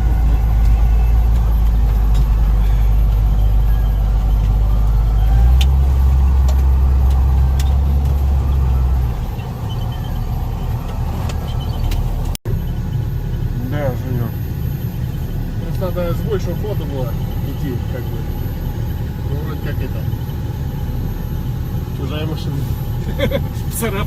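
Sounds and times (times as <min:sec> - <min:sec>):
engine rumbling under load: 0:00.0 - 0:24.0.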